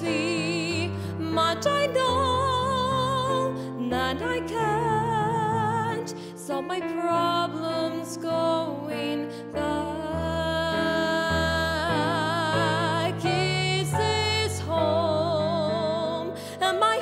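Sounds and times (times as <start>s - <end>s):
digital piano chords: 0.0s - 17.0s
woman singing: 0.0s - 17.0s.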